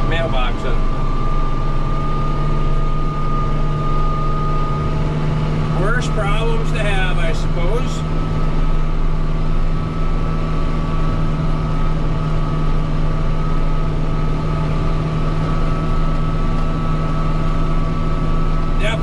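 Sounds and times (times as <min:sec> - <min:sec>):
steady high whine: 0:00.0 - 0:19.0
tractor diesel engine droning: 0:00.0 - 0:19.0.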